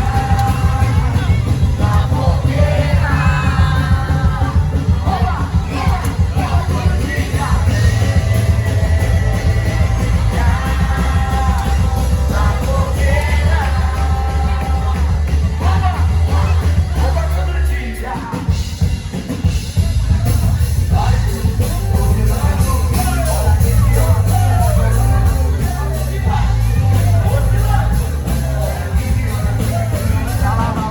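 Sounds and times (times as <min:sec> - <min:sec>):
bass: 0:00.0 - 0:30.9
drums: 0:00.0 - 0:30.9
voices singing: 0:00.0 - 0:30.9.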